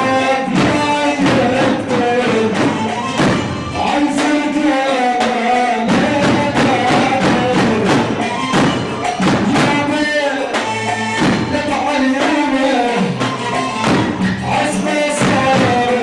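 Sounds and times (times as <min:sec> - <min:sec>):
instrumental party music: 0:00.0 - 0:16.0.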